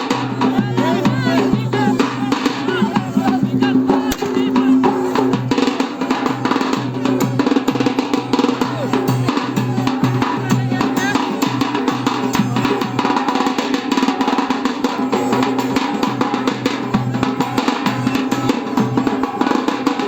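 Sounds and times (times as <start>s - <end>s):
fast dense drumming: 0.0s - 20.0s.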